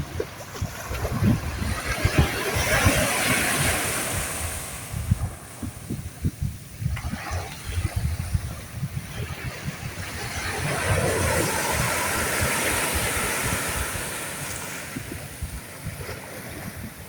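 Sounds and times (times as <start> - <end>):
rushing wind noise: 0.0 - 17.0
wind buffeting microphone: 0.0 - 17.0.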